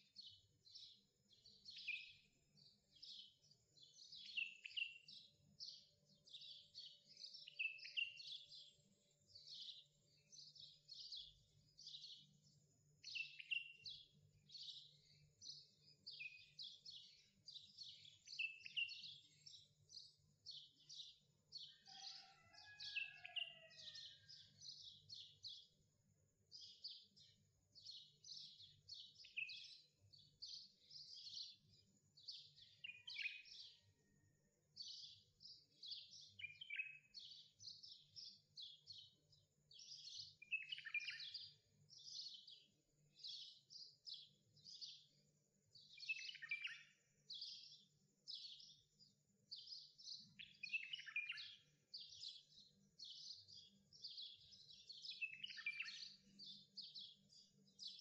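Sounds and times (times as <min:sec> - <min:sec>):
small bird chirping: 0:00.0 - 0:25.8, 0:26.4 - 0:58.0.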